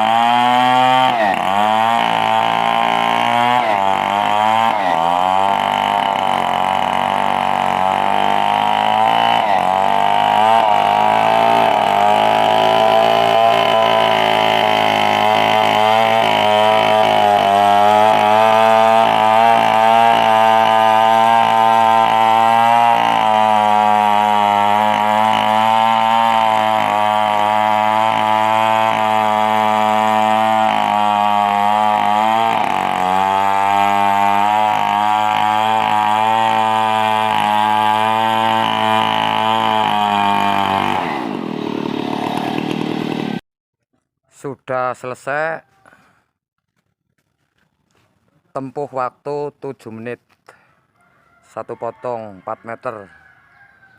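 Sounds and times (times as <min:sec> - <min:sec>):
petrol saw cutting log: 0:00.0 - 0:43.4, 0:51.5 - 0:53.1.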